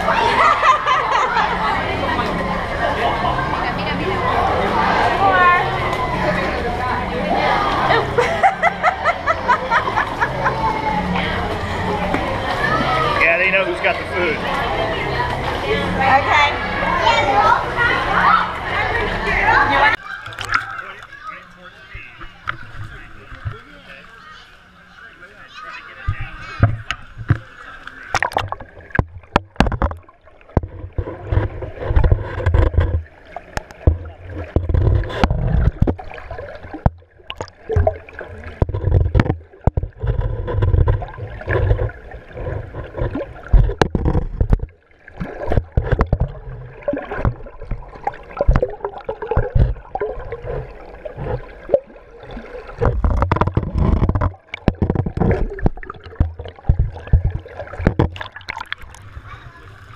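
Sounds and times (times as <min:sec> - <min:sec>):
muffled water sloshing and gurgling: 0:00.0 - 0:25.1, 0:26.0 - 0:59.9.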